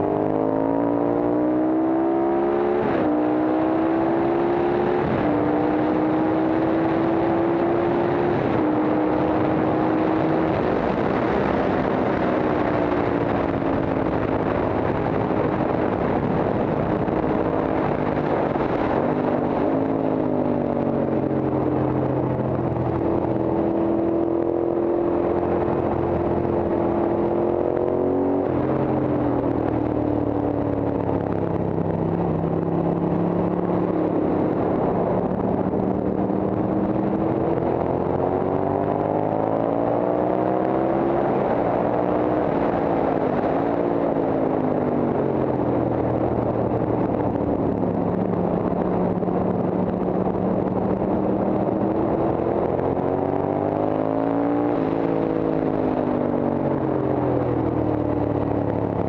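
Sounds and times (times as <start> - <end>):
motorcycle engine accelerating: 0.0 - 59.0
wind rush over microphone: 0.0 - 59.0.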